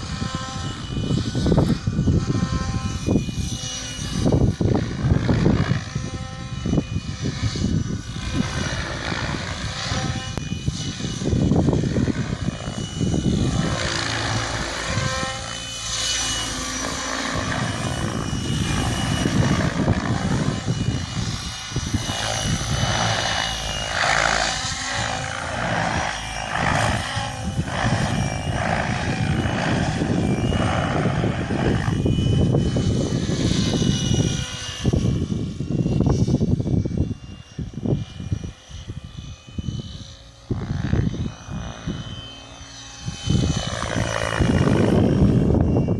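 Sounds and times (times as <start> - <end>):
rc helicopter motor whine: 0.0 - 45.9
rotor blades rushing: 0.0 - 45.9.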